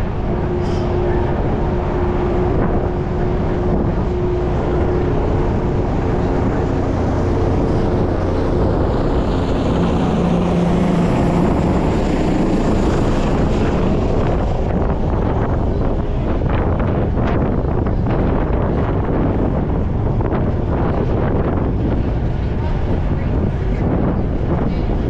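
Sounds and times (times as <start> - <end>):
ferry engine hum: 0.0 - 25.0.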